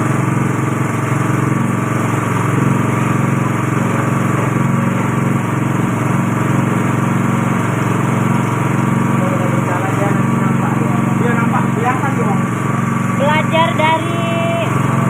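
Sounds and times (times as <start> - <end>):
machine motor humming: 0.0 - 15.0.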